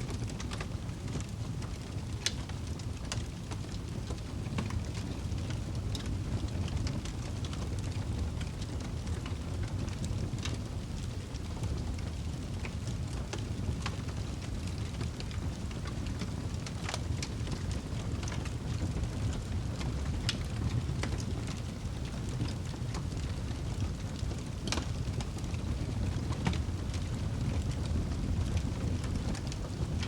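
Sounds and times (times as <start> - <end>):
fire crackles and pops: 0.0 - 30.0
fire rumbling in fireplace: 0.0 - 30.0.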